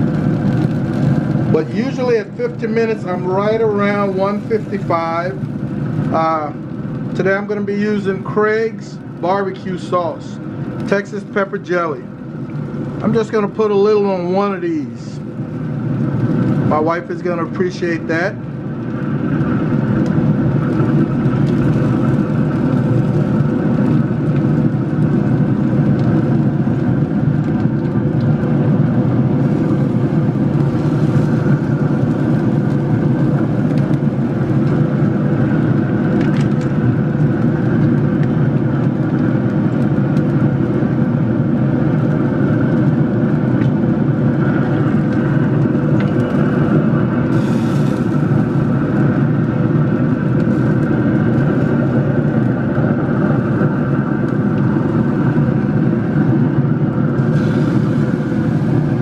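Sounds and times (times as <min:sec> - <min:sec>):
steady mechanical drone: 0:00.0 - 0:59.0.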